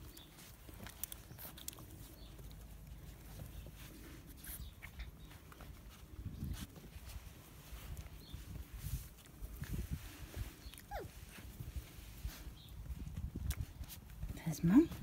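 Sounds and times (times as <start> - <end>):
puppies snuffling: 0.0 - 15.0
small clicks and rustles: 0.0 - 15.0.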